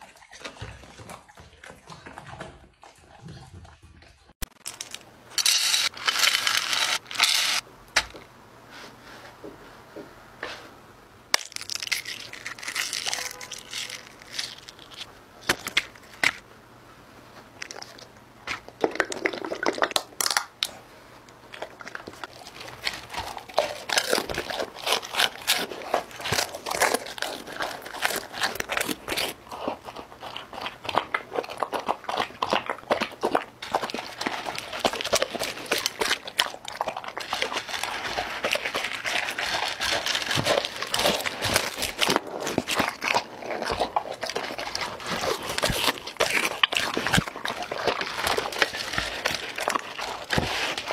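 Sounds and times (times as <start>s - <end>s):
dog crunching food: 4.4s - 7.6s, 11.4s - 16.4s, 17.6s - 50.9s.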